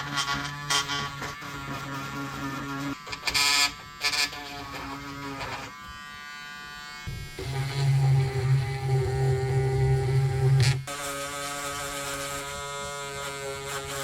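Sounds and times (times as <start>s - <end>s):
power tool motor buzzing: 0.0s - 14.0s.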